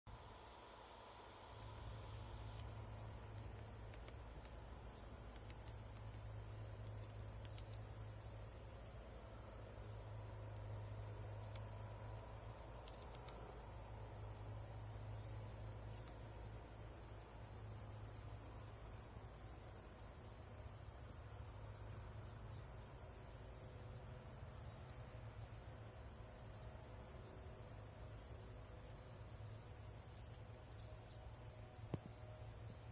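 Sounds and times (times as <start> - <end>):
insects chirping: 0.1 - 32.9.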